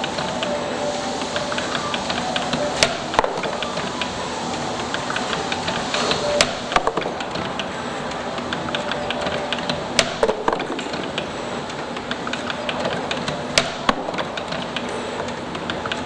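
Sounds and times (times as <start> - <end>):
spring-forming machine running: 0.0 - 16.0.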